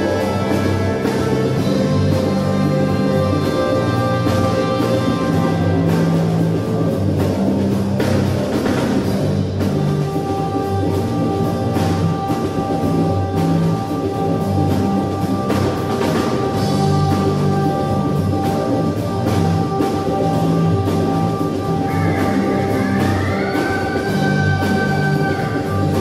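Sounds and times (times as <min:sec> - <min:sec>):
drum kit playing: 0:00.0 - 0:26.0
low bass notes: 0:00.0 - 0:26.0.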